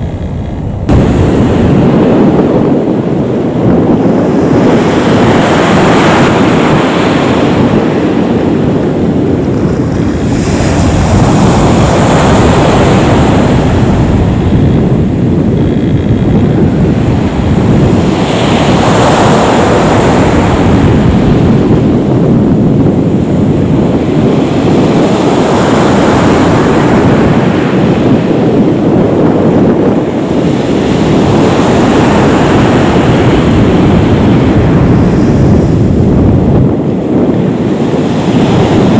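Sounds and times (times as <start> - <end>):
jet engines rumbling: 0.0 - 38.9
wind buffeting microphone: 0.0 - 38.9.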